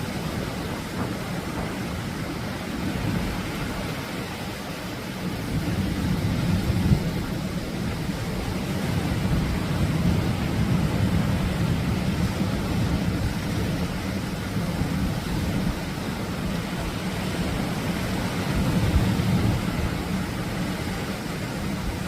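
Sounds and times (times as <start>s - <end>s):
surf washing in: 0.0s - 22.0s.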